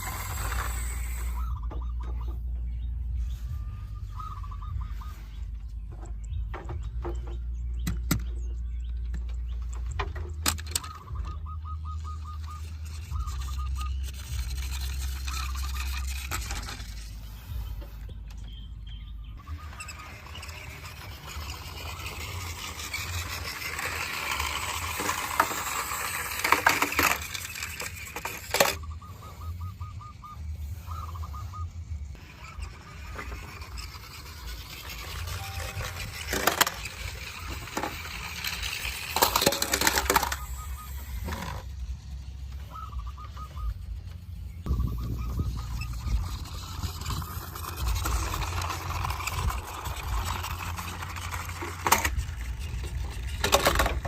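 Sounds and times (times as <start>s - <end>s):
toy vehicle parts clattering: 0.0s - 2.6s, 5.9s - 18.5s, 19.5s - 29.0s, 32.0s - 42.6s, 45.5s - 54.0s.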